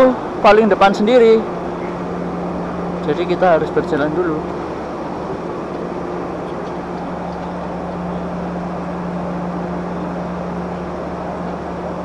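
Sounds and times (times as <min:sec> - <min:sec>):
diesel train idling: 0:00.0 - 0:12.0.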